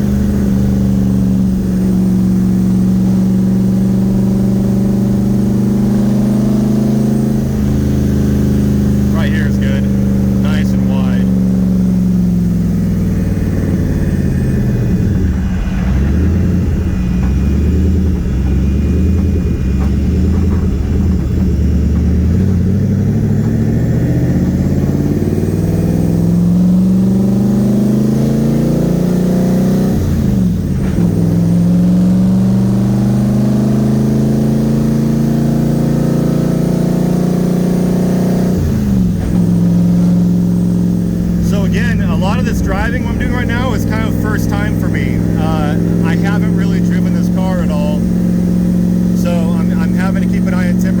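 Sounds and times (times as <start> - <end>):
car engine revving through gears: 0.0 - 51.0.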